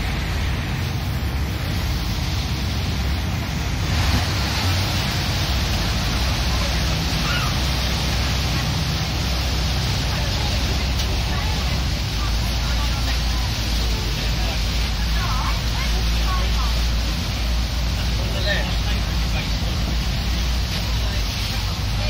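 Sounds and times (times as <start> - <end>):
boat engine drone: 0.0 - 22.0
water rushing: 0.0 - 22.0.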